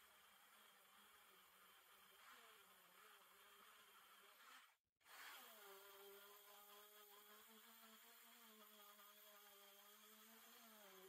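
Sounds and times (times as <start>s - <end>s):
rotary tool wire brush whine: 0.0s - 11.0s.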